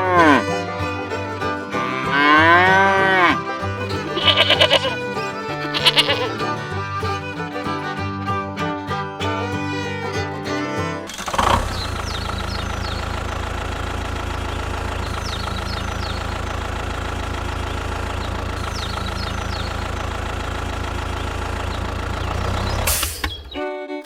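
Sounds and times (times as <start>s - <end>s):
engine idling: 0.0s - 8.3s, 8.9s - 23.6s.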